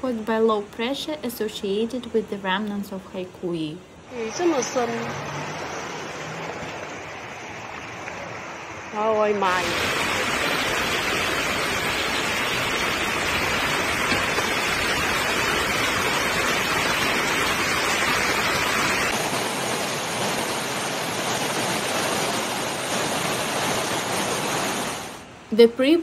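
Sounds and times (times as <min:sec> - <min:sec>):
heavy rain: 0:03.2 - 0:26.0
rushing floodwater: 0:04.0 - 0:25.5.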